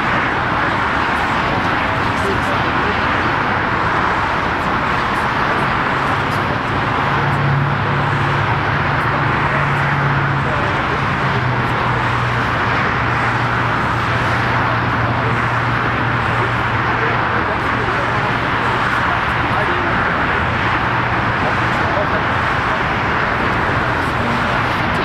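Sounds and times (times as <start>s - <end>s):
jet engines rushing at idle: 0.0s - 25.0s.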